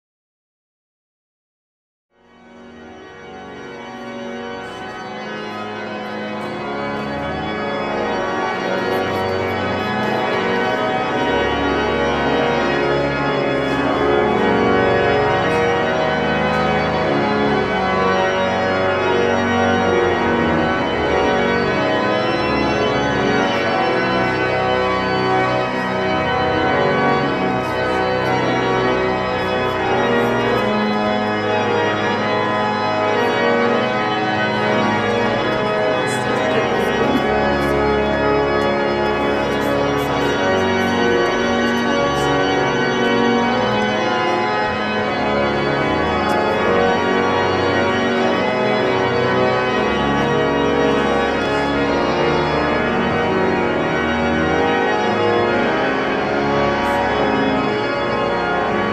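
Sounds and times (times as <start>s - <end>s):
organ playing held chords: 2.2s - 58.9s.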